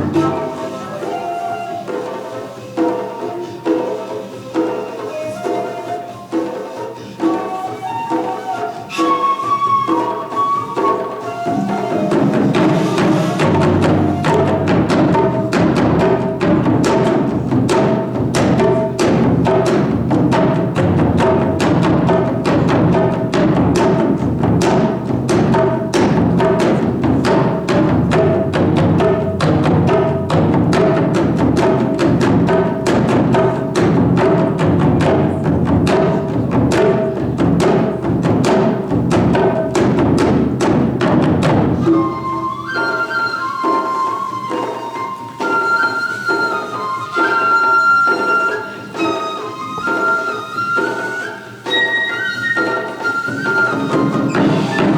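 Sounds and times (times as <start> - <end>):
taiko drums: 0.0 - 54.9.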